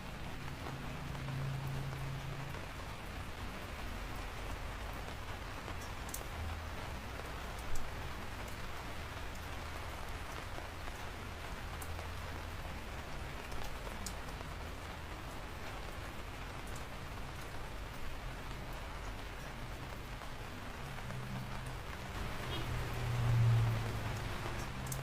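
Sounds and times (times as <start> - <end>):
raindrops tapping: 0.0 - 25.0
steady rain falling: 0.0 - 25.0.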